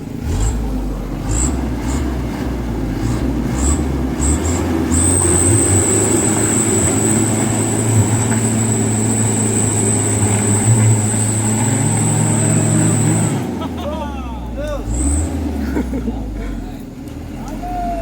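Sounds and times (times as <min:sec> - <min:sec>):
truck diesel engine under load: 0:00.0 - 0:18.0.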